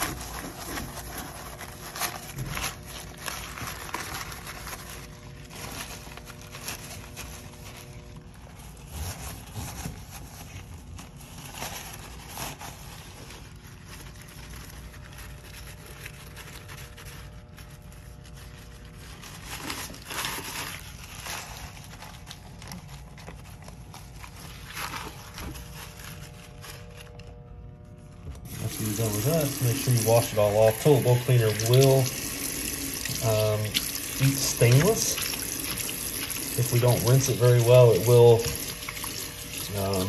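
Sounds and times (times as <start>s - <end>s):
paper towel wiping a sink: 0.0s - 27.2s, 28.0s - 40.0s.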